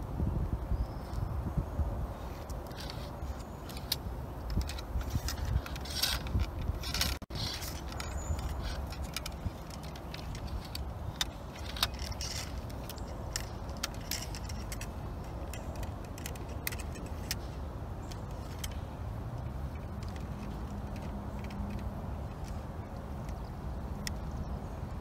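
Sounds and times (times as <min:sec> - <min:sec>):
metallic clicks of ramrods: 0:02.4 - 0:24.5.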